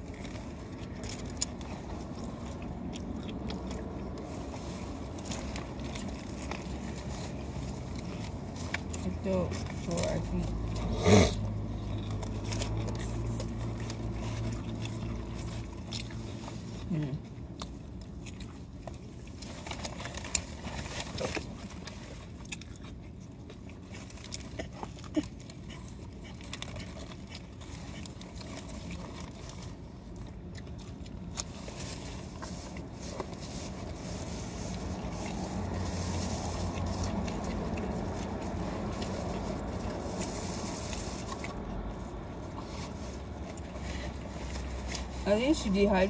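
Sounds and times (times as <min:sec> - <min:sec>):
chewing and mouth noises: 0:00.0 - 0:46.0
low vehicle rumble: 0:00.0 - 0:46.0.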